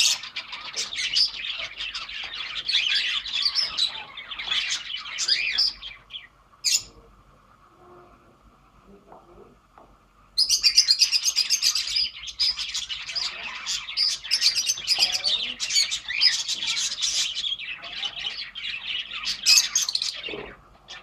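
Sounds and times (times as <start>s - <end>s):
budgerigar chicks chirping: 0.0s - 7.7s, 10.4s - 21.0s.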